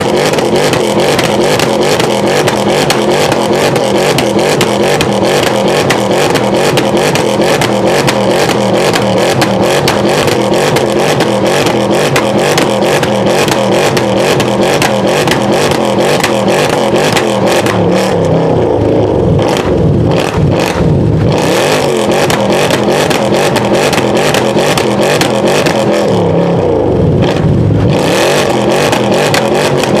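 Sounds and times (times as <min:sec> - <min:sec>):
car exhaust crackling and popping: 0:00.0 - 0:30.0
engine revving: 0:00.0 - 0:30.0.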